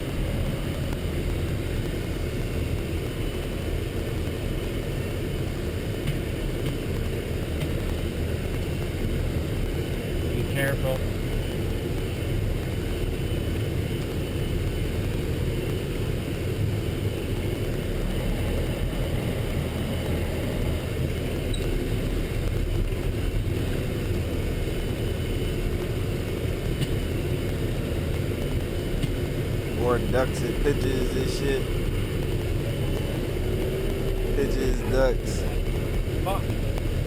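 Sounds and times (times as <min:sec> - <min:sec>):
truck engine and road rumble: 0:00.0 - 0:37.0.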